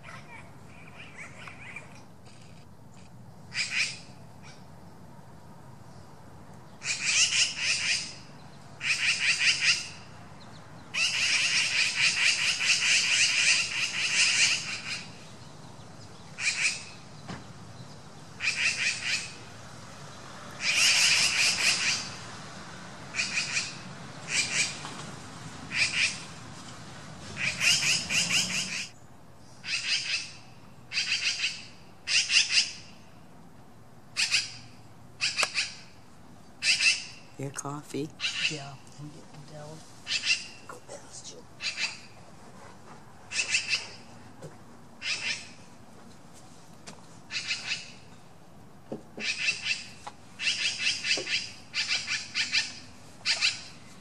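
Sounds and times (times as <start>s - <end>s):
small birds twittering: 0.0s - 5.0s, 6.6s - 22.4s, 23.1s - 24.8s, 27.3s - 33.1s, 34.1s - 42.4s, 43.2s - 44.4s, 45.0s - 45.7s, 47.2s - 48.4s, 49.2s - 54.0s.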